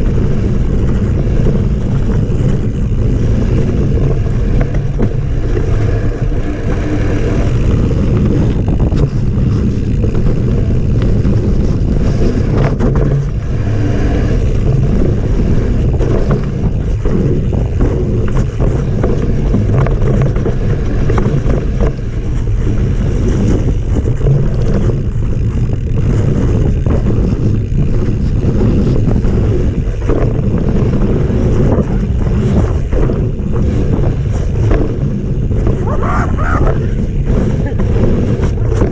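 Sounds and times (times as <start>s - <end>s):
bike rattling clicks and knocks: 0.0s - 38.9s
wind and tyre noise: 0.0s - 38.9s.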